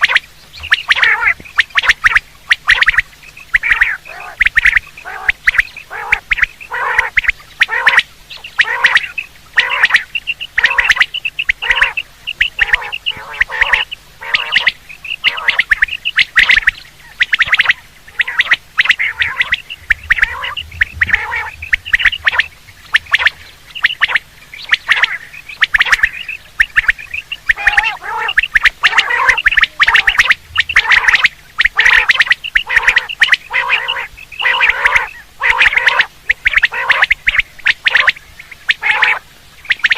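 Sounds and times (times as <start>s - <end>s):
quail calls: 0.0s - 39.9s.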